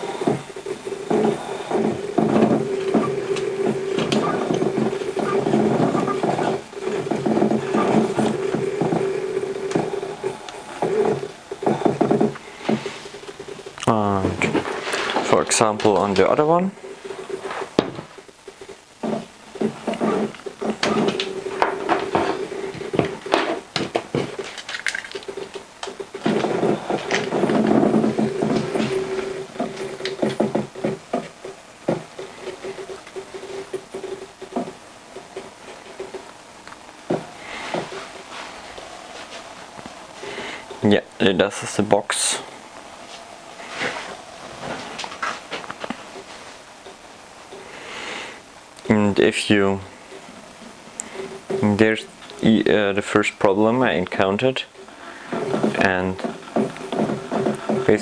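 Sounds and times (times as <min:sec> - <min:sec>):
rapid clicking and rattling: 0:00.0 - 0:47.8, 0:48.5 - 0:58.0
steady hum: 0:00.0 - 0:58.0.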